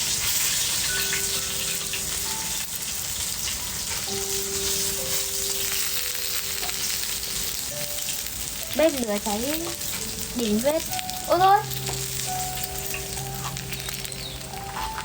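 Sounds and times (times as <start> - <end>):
meat rolls sizzling in oil: 0.0 - 15.0.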